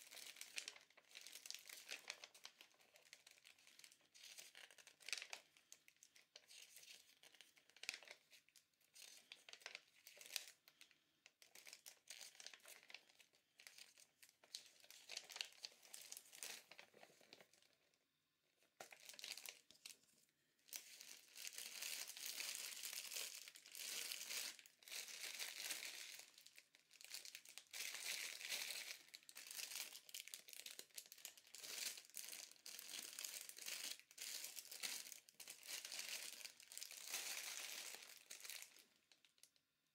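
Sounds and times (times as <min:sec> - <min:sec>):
plastic packaging crinkling: 0:00.0 - 0:17.9, 0:18.8 - 0:39.6.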